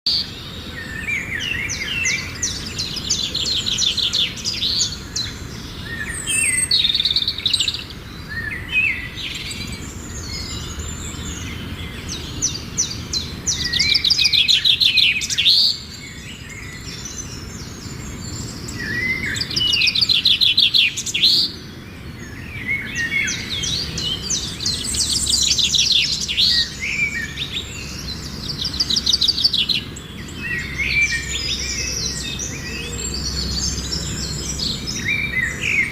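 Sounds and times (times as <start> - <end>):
songbirds singing: 0.0 - 35.9.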